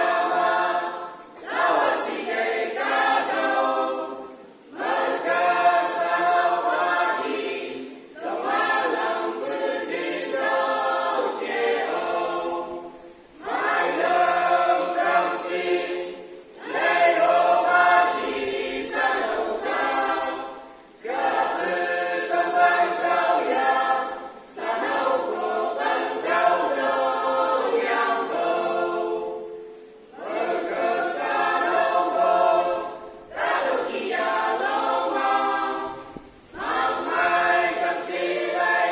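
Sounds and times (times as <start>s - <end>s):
mixed choir singing unaccompanied: 0.0s - 38.9s.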